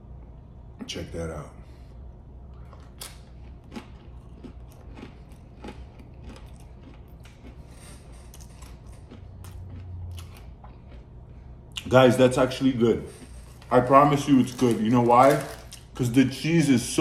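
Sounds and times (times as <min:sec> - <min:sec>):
faint low hum: 0:00.0 - 0:17.0
chewing crunches: 0:02.5 - 0:16.1.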